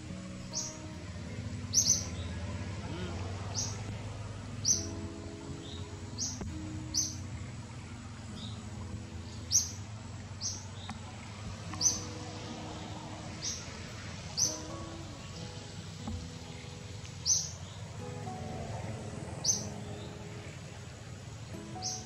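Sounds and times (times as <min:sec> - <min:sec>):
bird chirping: 0:00.0 - 0:22.0
held low tones: 0:00.0 - 0:22.0
low background noise: 0:00.0 - 0:22.0.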